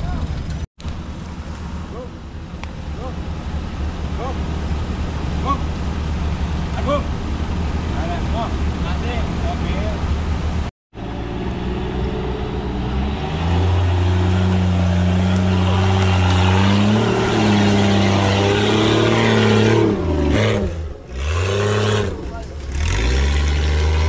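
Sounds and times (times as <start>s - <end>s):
off-road engine revving hard: 2.9s - 24.0s.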